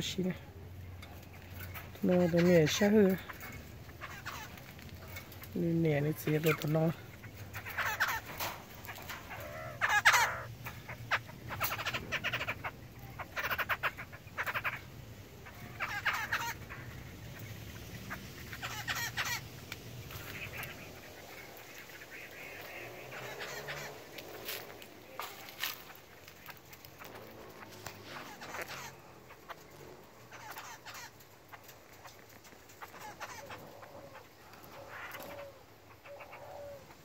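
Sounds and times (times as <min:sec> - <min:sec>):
birds rattling calls: 0:00.0 - 0:37.0.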